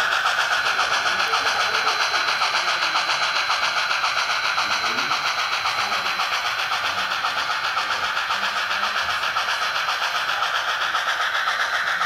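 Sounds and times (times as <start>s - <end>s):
hissing steam exhaust chuffs: 0.0s - 12.0s.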